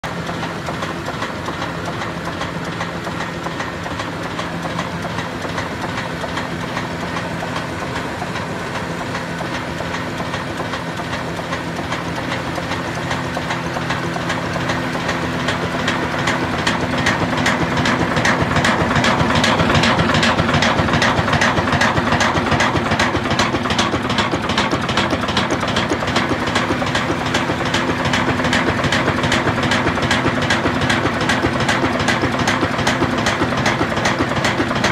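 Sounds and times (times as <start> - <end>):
diesel engine running: 0.0 - 34.9
flour mill machinery running: 0.0 - 34.9.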